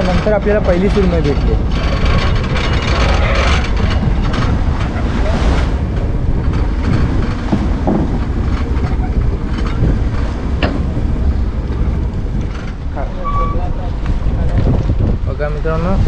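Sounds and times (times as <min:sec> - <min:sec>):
boat machinery rumble: 0:00.0 - 0:16.0.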